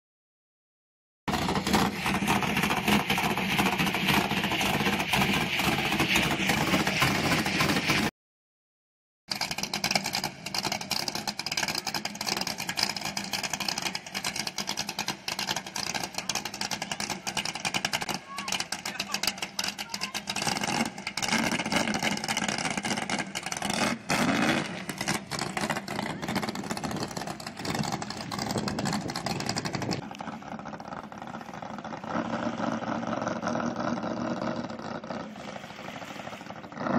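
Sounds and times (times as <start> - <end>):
boat engine idling loudly: 1.3 - 8.1, 9.3 - 36.9.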